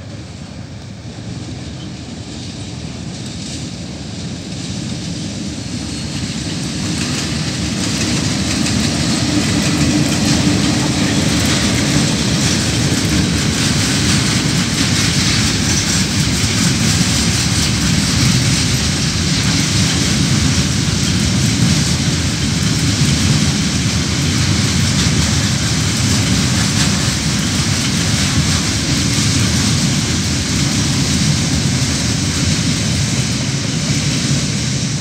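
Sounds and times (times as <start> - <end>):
diesel locomotives: 0.0 - 35.0
wheels rumbling on rails: 0.0 - 35.0.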